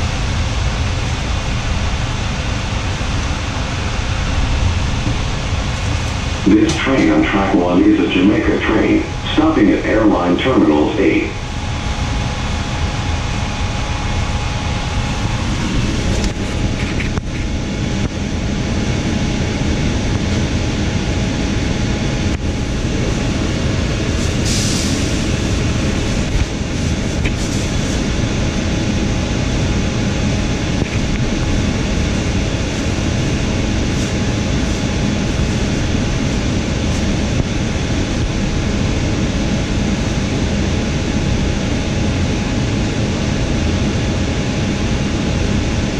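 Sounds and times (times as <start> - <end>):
faint steady whine: 0.0 - 45.9
train car hum and rumble: 0.0 - 45.9.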